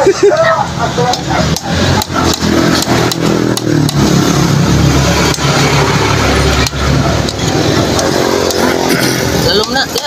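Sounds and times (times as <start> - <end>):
motorcycle engine running: 1.2 - 10.0.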